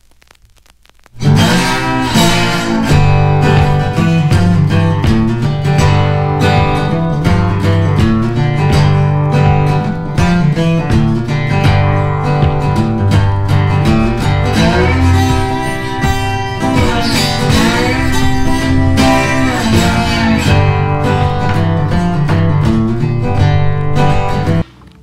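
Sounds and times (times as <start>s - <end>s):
strummed acoustic guitar music: 1.2s - 25.0s.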